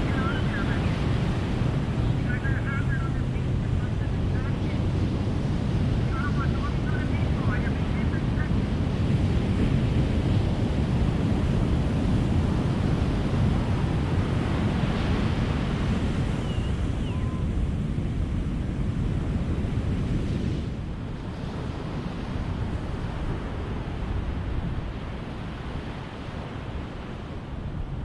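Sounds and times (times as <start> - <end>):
ocean surf washing ashore: 0.0 - 28.0.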